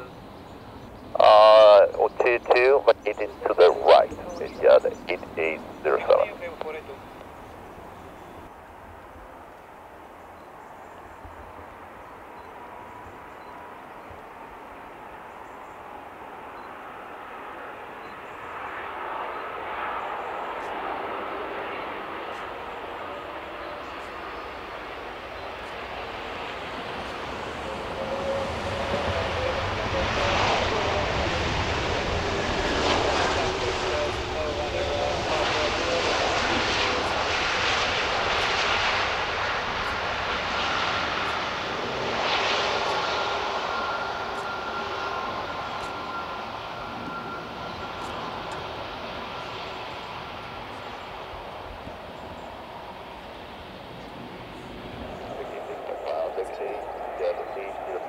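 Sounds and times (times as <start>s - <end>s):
jet engines roaring: 0.0s - 10.0s, 11.4s - 58.0s
faint steady whine: 0.0s - 58.0s.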